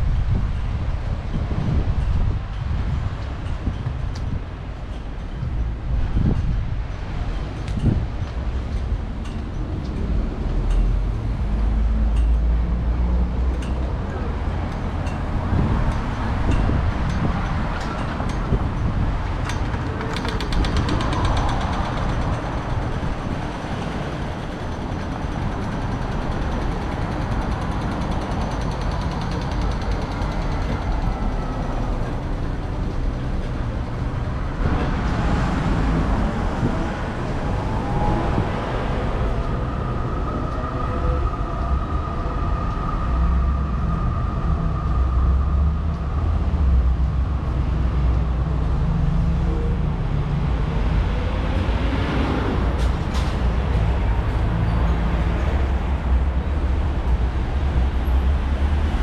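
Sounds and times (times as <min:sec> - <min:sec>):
vehicle rumble: 0:00.0 - 0:59.0.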